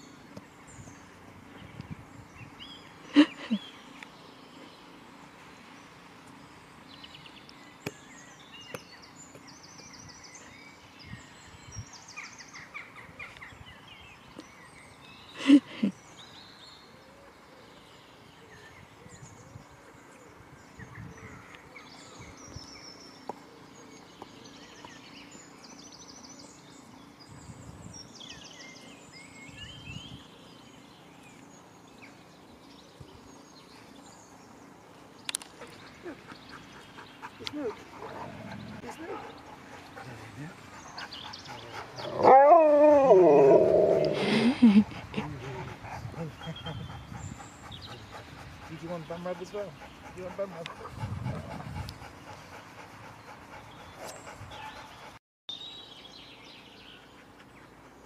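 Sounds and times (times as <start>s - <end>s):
small birds chirping and singing: 0.0s - 58.0s.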